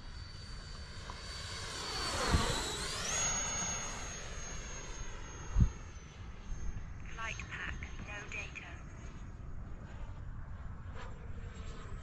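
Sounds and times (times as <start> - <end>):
ducted-fan jet whine: 0.0 - 12.0.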